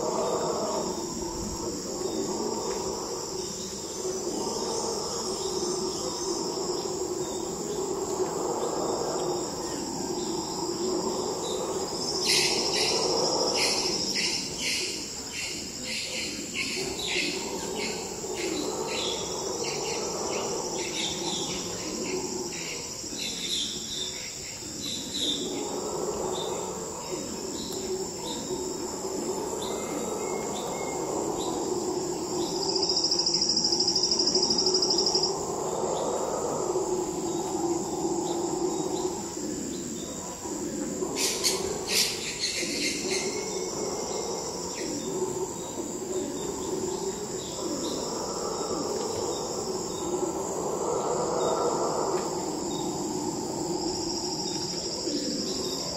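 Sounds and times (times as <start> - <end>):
howler monkeys roaring: 0.0 - 55.9
insect and bird chirps: 0.0 - 55.9
insects droning: 0.0 - 55.9.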